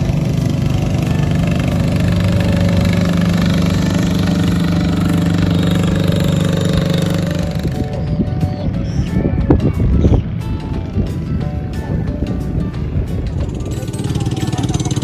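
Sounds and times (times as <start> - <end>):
motor boat engine humming: 0.0 - 15.0.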